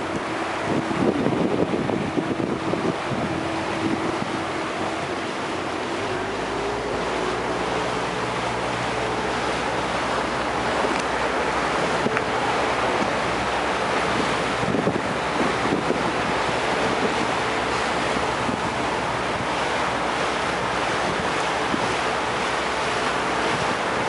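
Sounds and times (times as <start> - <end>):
boat engine running: 0.0 - 24.0
water rushing past hull: 0.0 - 24.0
wind on microphone: 0.0 - 24.0.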